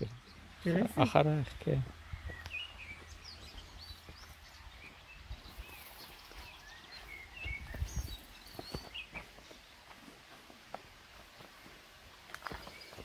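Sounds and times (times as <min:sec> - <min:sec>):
small birds chirping: 0:00.0 - 0:13.0
footsteps on dirt trail: 0:01.1 - 0:13.0.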